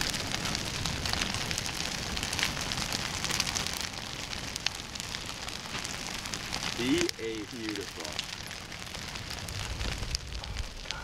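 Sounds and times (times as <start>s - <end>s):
log fire burning: 0.0s - 11.0s
logs crackling and popping: 0.0s - 11.0s.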